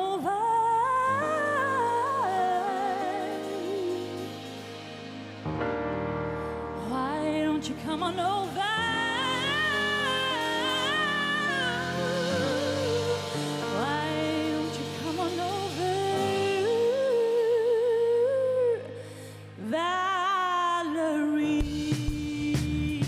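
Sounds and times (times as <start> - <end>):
woman singing with vibrato: 0.0 - 4.5, 6.8 - 19.0, 19.6 - 23.0
drums and bass: 0.0 - 18.0, 21.5 - 23.0.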